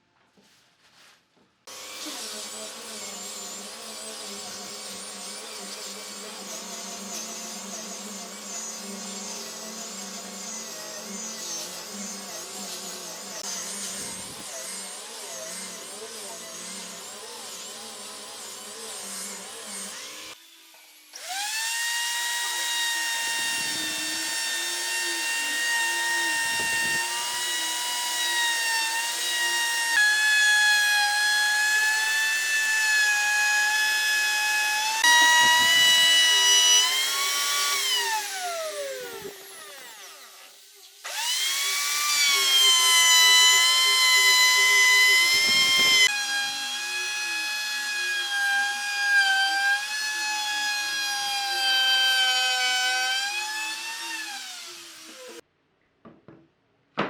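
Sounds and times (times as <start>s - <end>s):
electric power tool whining: 1.7s - 55.4s.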